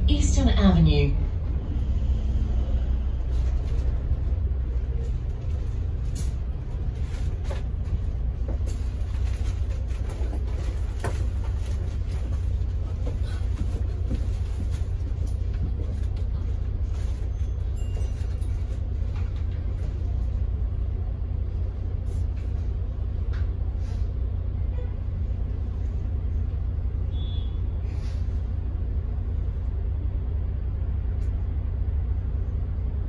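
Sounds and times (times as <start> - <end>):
bus low rumble: 0.0 - 33.0.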